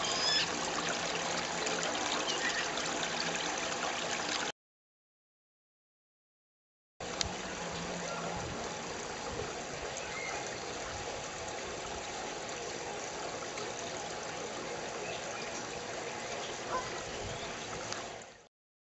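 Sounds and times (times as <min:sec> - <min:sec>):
water trickling through mesh: 0:00.0 - 0:04.5, 0:07.0 - 0:18.4.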